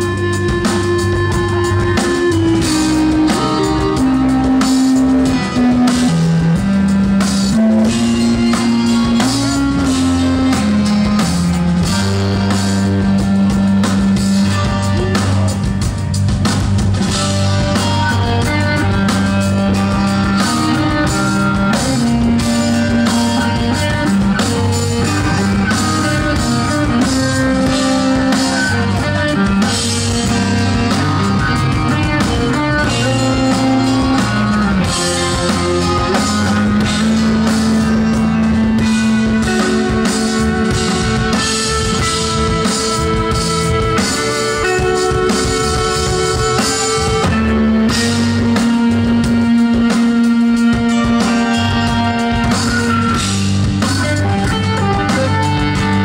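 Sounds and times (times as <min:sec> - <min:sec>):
drum kit playing: 0:00.0 - 0:56.0
electric guitar: 0:00.0 - 0:56.0
low bass notes: 0:00.0 - 0:56.0.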